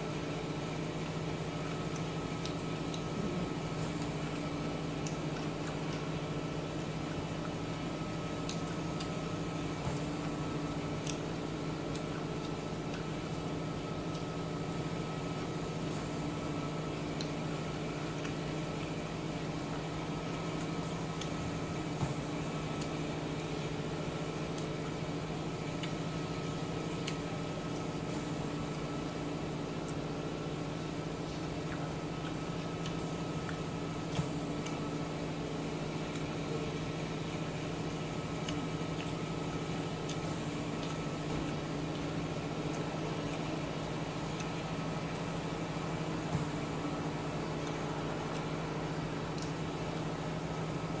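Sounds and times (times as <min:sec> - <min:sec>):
appliance mechanical hum: 0:00.0 - 0:51.0.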